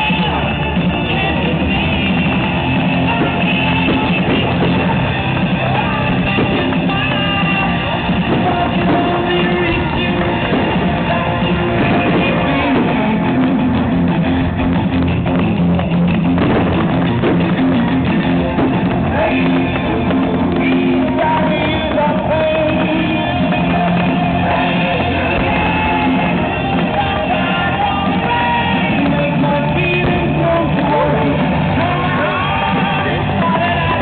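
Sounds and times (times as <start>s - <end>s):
rock music: 0.0s - 34.0s.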